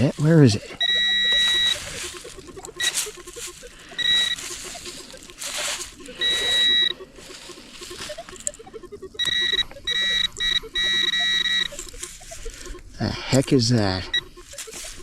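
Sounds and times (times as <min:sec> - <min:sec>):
metal detector tone: 0:00.0 - 0:15.0.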